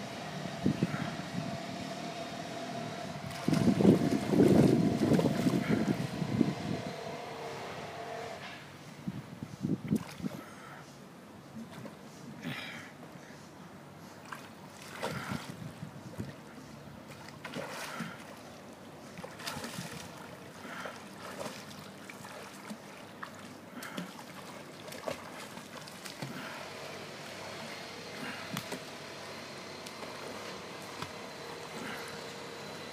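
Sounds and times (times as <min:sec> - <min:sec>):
swimmer splashing water: 0:00.0 - 0:08.4, 0:14.2 - 0:32.9.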